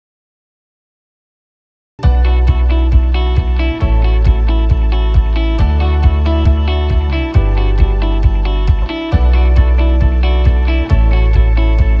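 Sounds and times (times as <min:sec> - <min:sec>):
background guitar music: 0:02.0 - 0:12.0.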